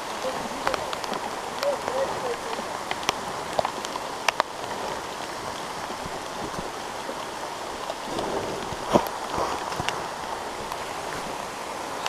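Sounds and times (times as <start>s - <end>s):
rain on foliage: 0.0s - 12.0s.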